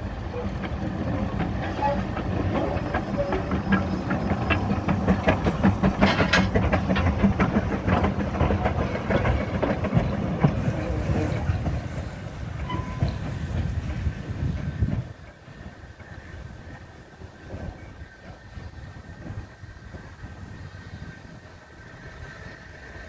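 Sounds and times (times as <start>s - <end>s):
train rumble: 0.0s - 23.0s
train wheels clattering: 0.0s - 23.0s.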